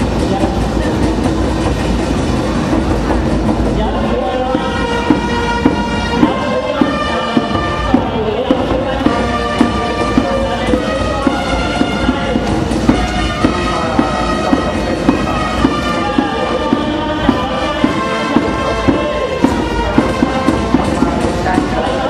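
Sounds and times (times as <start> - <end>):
brass melody: 0.0 - 22.0
steady drum beat: 0.0 - 22.0.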